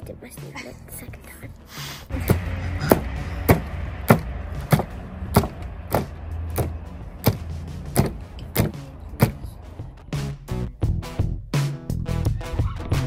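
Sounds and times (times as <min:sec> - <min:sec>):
background music with steady beat: 0:00.0 - 0:13.0.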